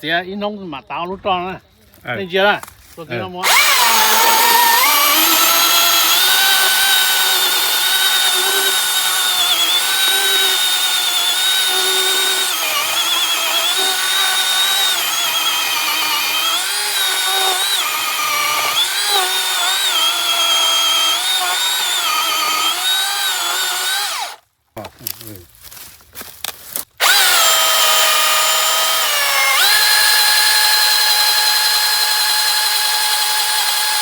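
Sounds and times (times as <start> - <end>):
chainsaw cutting wood: 3.4 - 24.4, 27.0 - 34.0.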